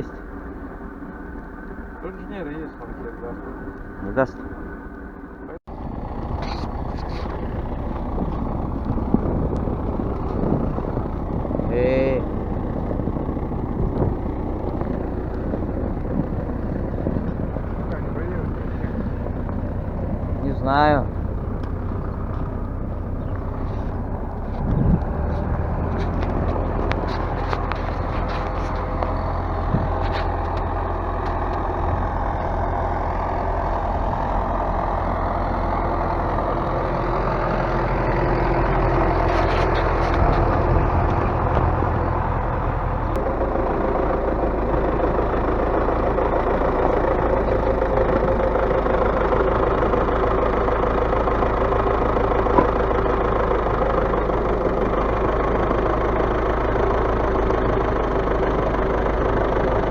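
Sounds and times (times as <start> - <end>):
vehicle engine idling: 0.0 - 59.9.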